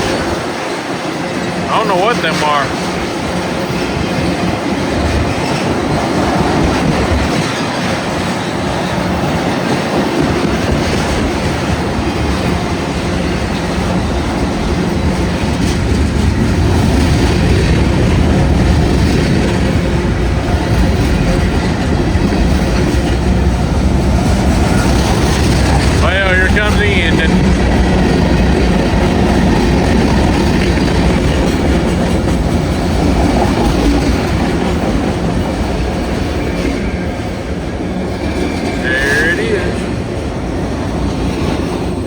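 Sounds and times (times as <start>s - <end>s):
freight train wheels rumbling on rails: 0.0s - 42.0s
wheels clacking over rail joints: 2.7s - 38.8s.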